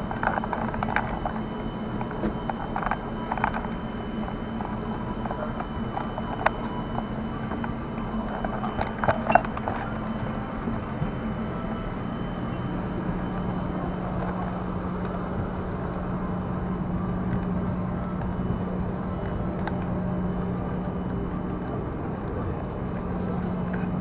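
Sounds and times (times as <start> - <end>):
cabin ventilation hum: 0.0 - 24.0
low droning tone: 0.0 - 24.0.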